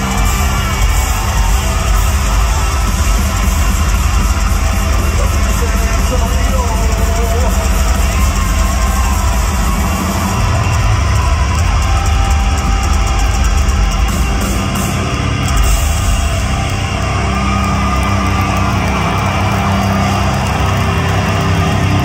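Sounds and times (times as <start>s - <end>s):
live hard rock band: 0.0s - 22.0s.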